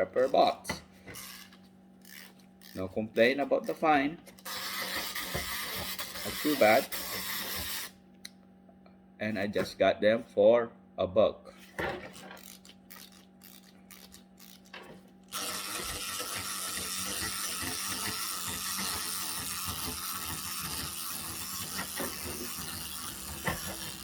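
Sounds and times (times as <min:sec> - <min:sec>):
clockwork toy motor whirring: 0:00.0 - 0:08.0, 0:11.6 - 0:24.0.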